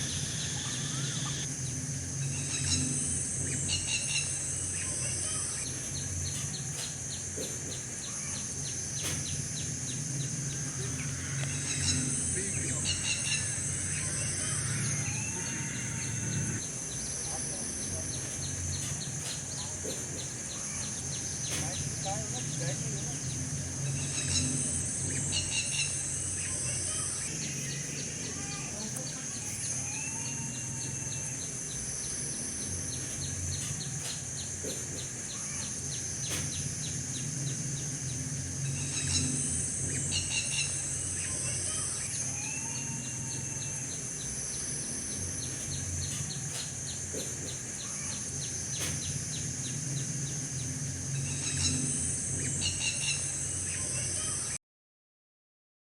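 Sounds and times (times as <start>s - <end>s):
low hum: 0.0s - 53.8s
rapid ticking chirps: 0.0s - 53.8s
high insect drone: 0.0s - 54.6s.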